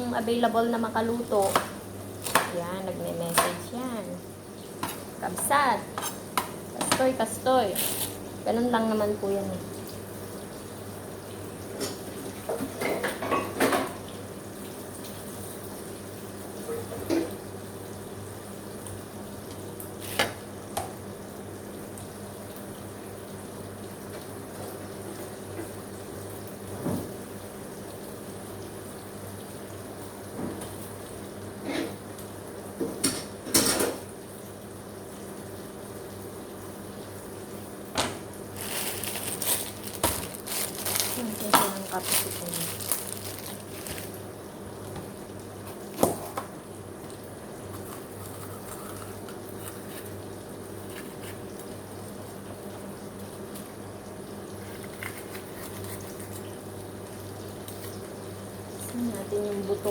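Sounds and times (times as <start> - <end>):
water running from tap: 0.0 - 59.9.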